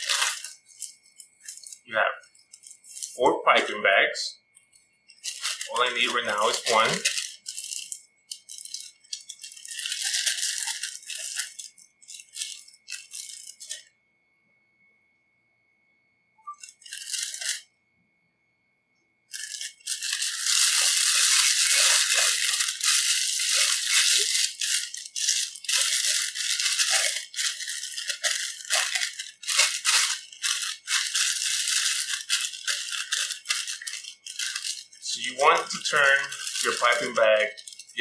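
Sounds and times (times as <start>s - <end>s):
plastic bag crinkling: 0.0s - 3.7s, 4.5s - 13.9s, 16.4s - 17.7s, 19.3s - 38.0s.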